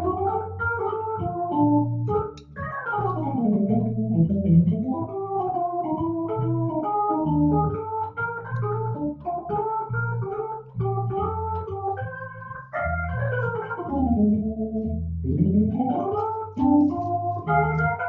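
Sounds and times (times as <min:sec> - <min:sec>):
organ playing: 0:00.0 - 0:18.0.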